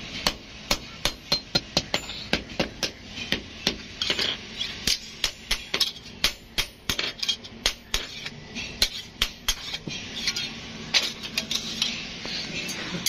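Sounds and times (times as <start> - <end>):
metal blades tapping and clinking: 1.3 - 12.0.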